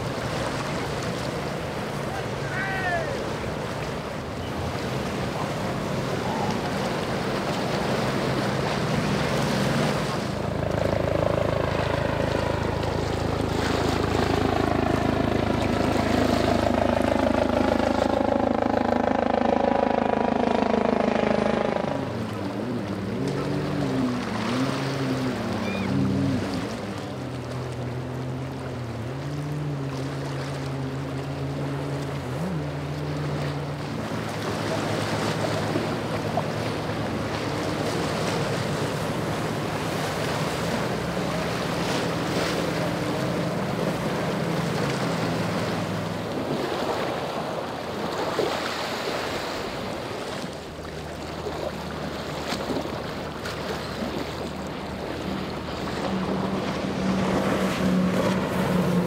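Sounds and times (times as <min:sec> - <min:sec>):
boat engines running: 0:00.0 - 0:59.0
waves splashing: 0:00.0 - 0:59.0.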